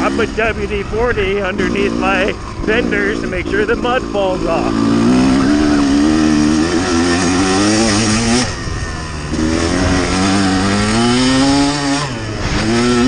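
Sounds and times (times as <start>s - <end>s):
dirt bike engine under throttle: 0.0s - 13.0s.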